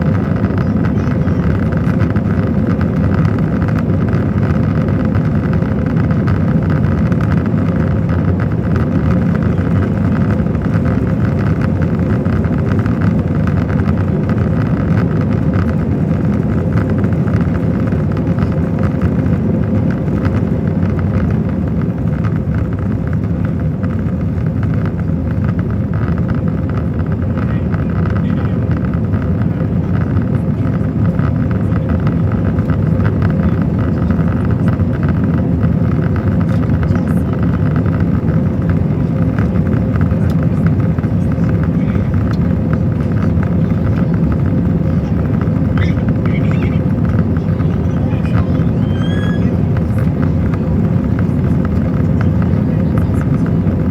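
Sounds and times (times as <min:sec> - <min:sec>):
airliner cabin engine roar: 0:00.0 - 0:53.9.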